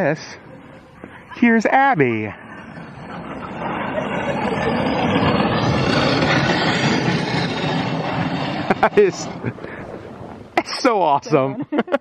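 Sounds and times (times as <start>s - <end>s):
sled runners scraping snow: 0.0s - 11.5s.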